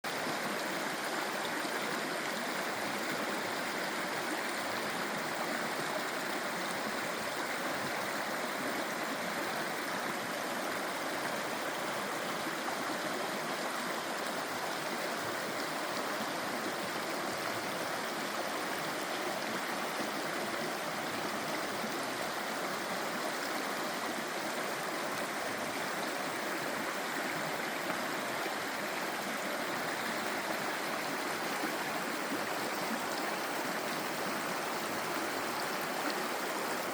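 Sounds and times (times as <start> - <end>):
stream running over rocks: 0.0 - 36.9.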